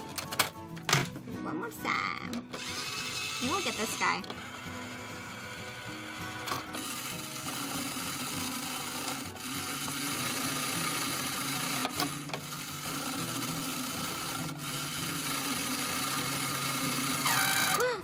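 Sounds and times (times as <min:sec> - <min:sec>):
toy claw machine motor whirring: 0:02.4 - 0:18.0.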